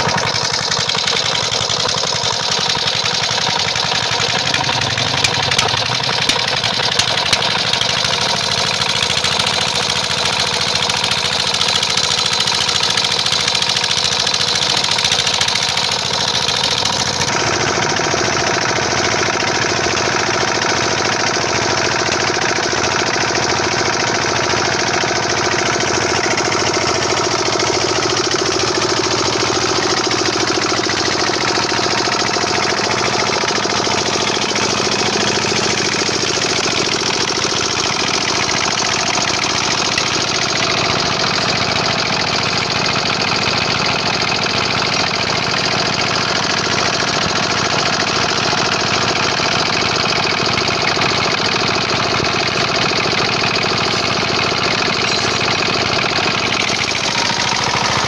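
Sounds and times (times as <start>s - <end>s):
small diesel engine running: 0.0s - 58.0s.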